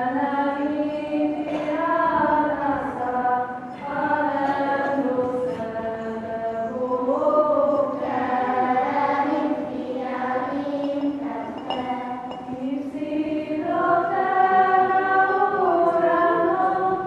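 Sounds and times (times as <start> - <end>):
choir singing slow song: 0.0 - 17.0.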